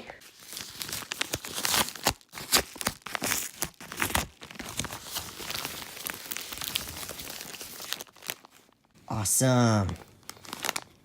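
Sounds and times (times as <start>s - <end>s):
packaging crinkling and tearing: 0.0s - 9.0s, 9.7s - 11.0s.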